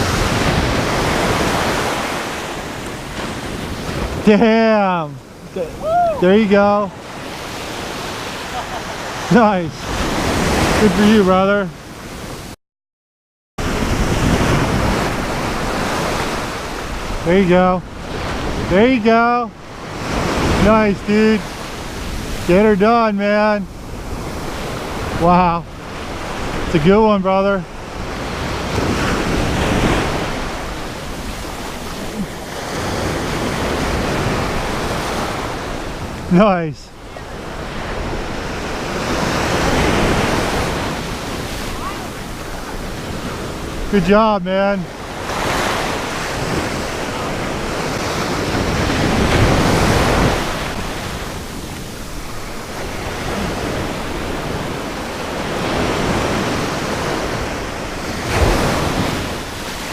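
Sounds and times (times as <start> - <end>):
surf washing onto beach: 0.0 - 12.5, 13.6 - 59.9.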